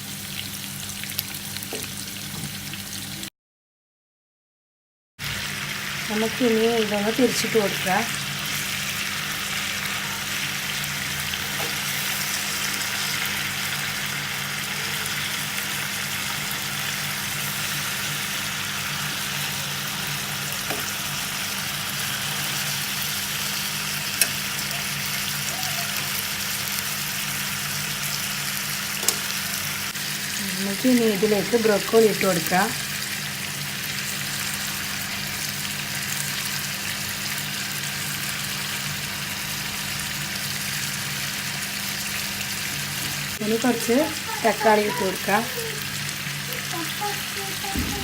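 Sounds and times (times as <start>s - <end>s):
food sizzling in oil: 0.0s - 3.3s, 5.2s - 48.0s.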